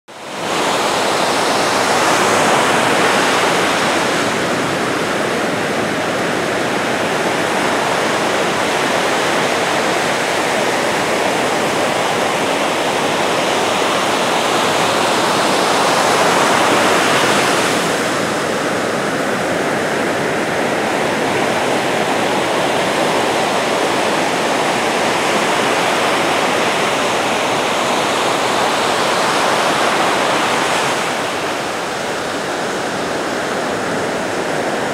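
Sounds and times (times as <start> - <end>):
ocean surf rushing: 0.1 - 34.9.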